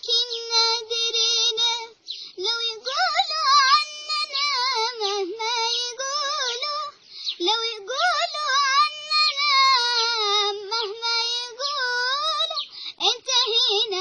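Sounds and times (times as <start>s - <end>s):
child singing unaccompanied: 0.0s - 14.0s.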